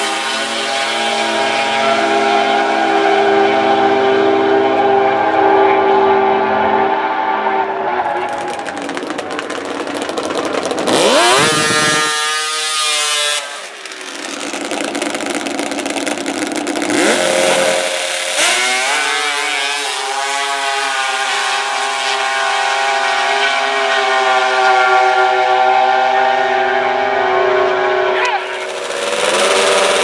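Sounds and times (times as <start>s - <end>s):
snowmobile engine revving: 0.0s - 30.0s.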